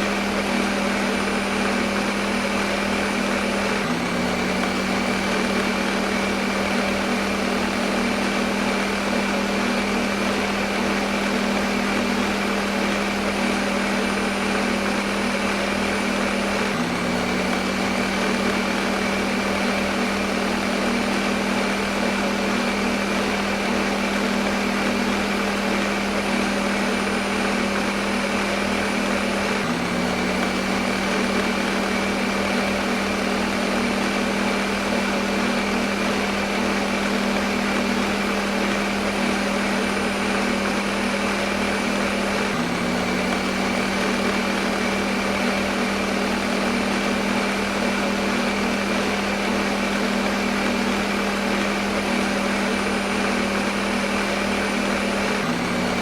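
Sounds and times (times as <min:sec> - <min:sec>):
electric blender whirring: 0:00.0 - 0:56.0.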